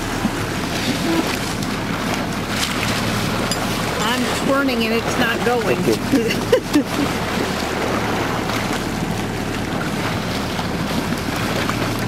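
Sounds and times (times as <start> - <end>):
boat engine humming: 0.0 - 12.0
sea noise: 0.0 - 12.0
wind: 0.0 - 12.0.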